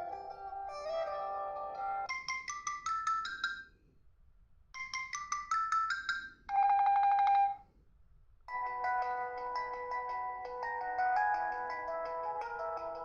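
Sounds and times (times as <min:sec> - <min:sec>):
ringtone melody: 0:00.0 - 0:03.7, 0:04.8 - 0:07.6, 0:08.5 - 0:13.0.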